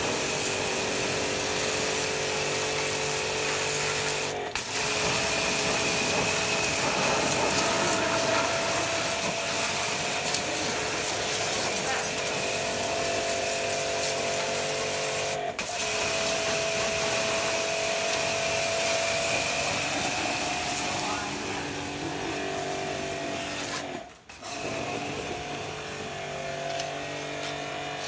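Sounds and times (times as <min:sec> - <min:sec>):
water jet hissing on metal: 0:00.0 - 0:23.9
pressure washer pump hum: 0:00.0 - 0:28.0.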